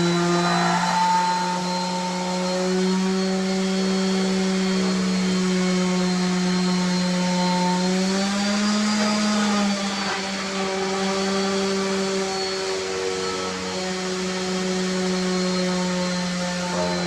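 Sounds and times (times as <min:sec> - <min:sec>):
electric motor humming: 0:00.0 - 0:17.0.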